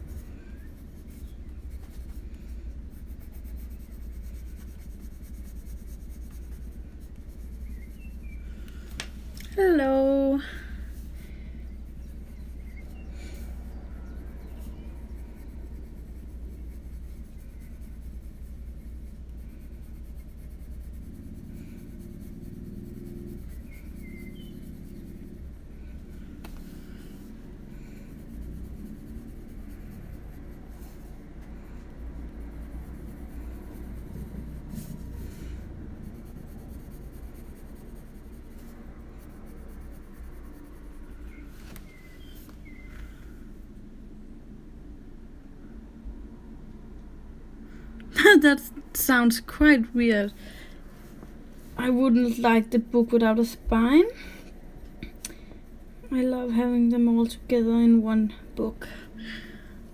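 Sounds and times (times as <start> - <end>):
pencil scratching on paper: 0.0 - 8.8, 9.6 - 42.8, 51.7 - 54.3, 55.1 - 59.6.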